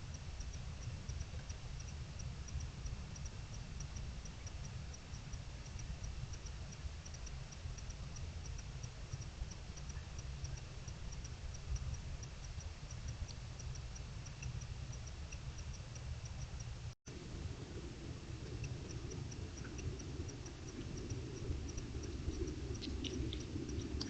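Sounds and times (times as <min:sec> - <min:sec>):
night insect chirping: 0:00.0 - 0:24.0
steady low rumble: 0:00.0 - 0:24.0.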